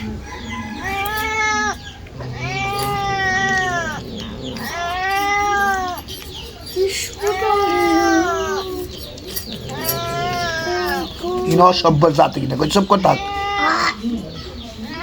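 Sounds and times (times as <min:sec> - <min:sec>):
cat meowing: 0:00.6 - 0:14.0.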